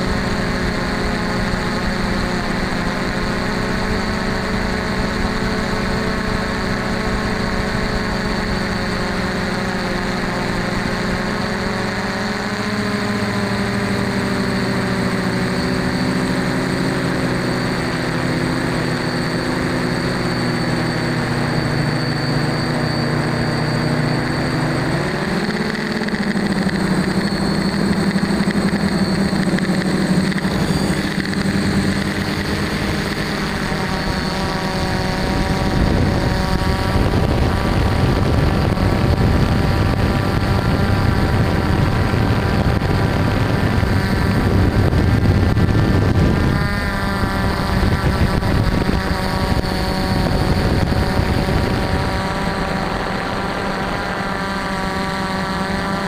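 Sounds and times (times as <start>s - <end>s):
drone motors and propellers humming: 0.0s - 56.0s.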